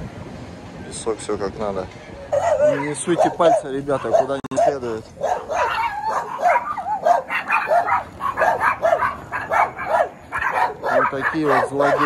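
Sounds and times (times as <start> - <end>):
small dogs yapping: 2.3 - 12.0.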